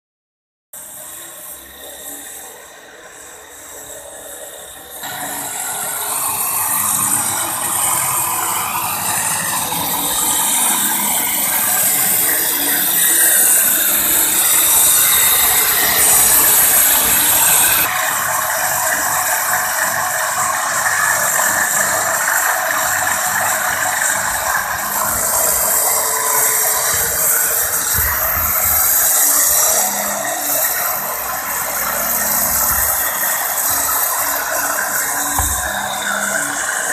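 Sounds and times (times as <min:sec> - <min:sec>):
loud steady machinery noise: 0:00.8 - 0:36.9.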